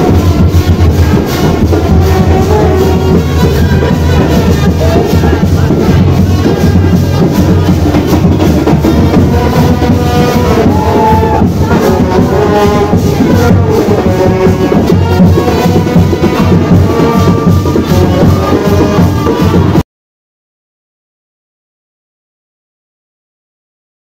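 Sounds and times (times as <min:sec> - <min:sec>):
brass band playing: 0:00.0 - 0:19.8.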